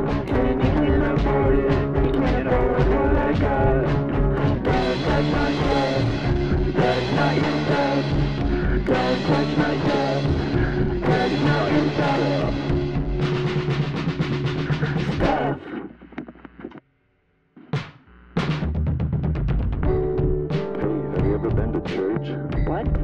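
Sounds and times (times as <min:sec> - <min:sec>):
drum kit beating: 0:00.0 - 0:15.5, 0:17.7 - 0:23.0
punk rock song: 0:00.0 - 0:15.6, 0:18.4 - 0:23.0.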